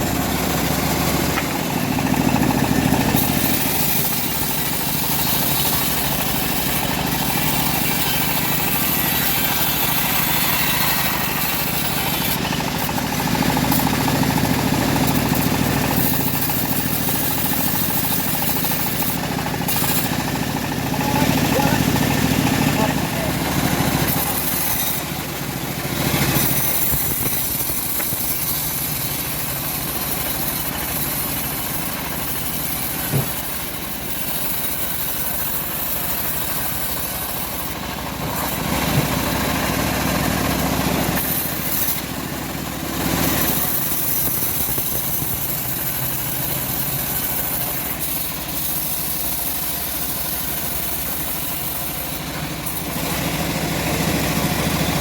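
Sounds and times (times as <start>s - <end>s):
bandsaw mill sawing logs: 0.0s - 55.0s.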